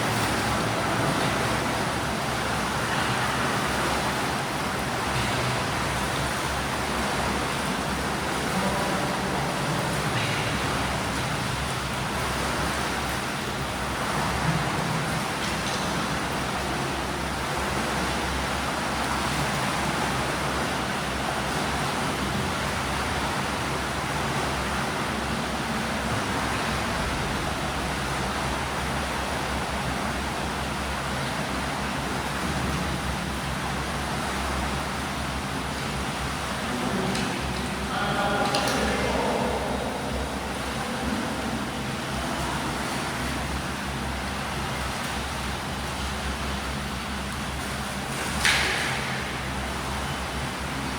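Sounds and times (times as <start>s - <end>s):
swimmers splashing water: 0.0s - 50.9s.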